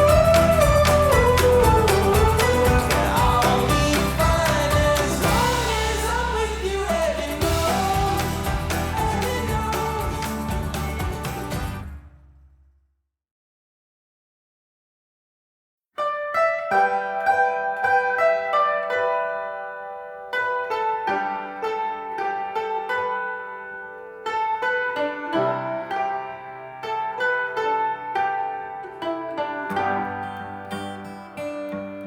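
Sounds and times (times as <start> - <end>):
plucked string music: 0.0 - 12.1, 16.0 - 32.0.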